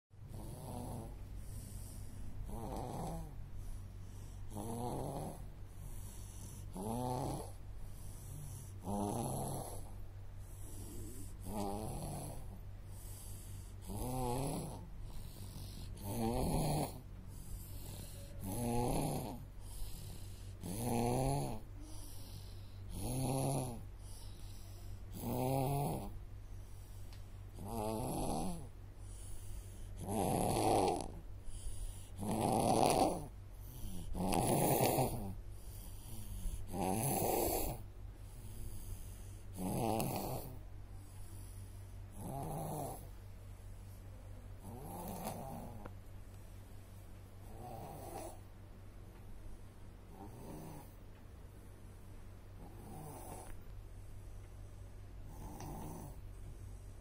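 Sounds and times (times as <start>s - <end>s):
toddler snoring: 0.2s - 43.2s, 44.5s - 45.9s, 47.4s - 48.5s, 50.1s - 51.0s, 52.6s - 53.7s, 55.2s - 56.4s.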